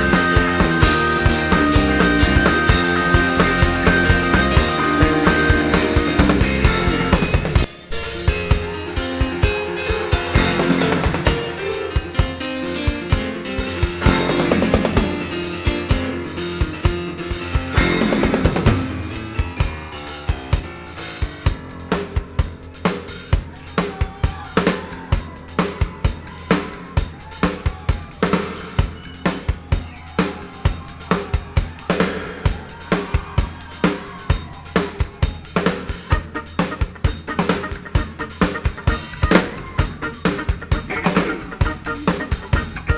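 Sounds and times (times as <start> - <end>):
drum kit beat: 0.0 - 42.9
rock band playing: 0.0 - 42.9.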